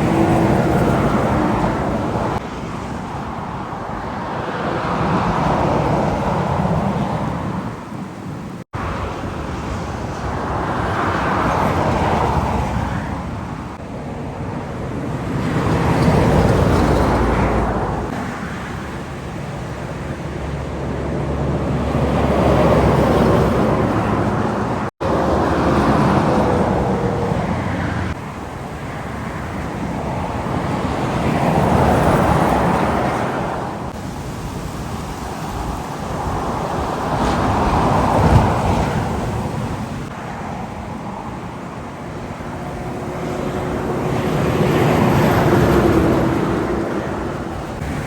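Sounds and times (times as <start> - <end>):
highway traffic passing: 0.0 - 48.0.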